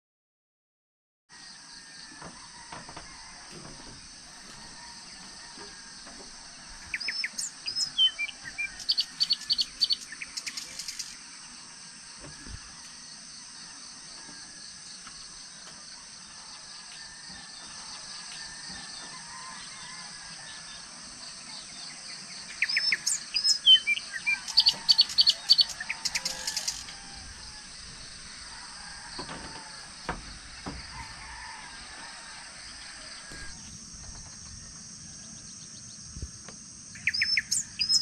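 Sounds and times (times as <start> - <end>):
high-pitched outdoor hiss: 1.3 - 38.0
wild birds chirping: 1.4 - 38.0.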